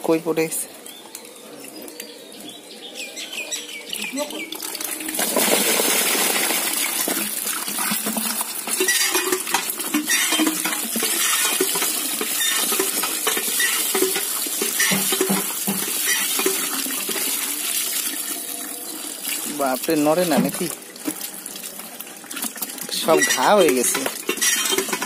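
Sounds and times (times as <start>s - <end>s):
water splashing and gushing: 4.0s - 25.0s.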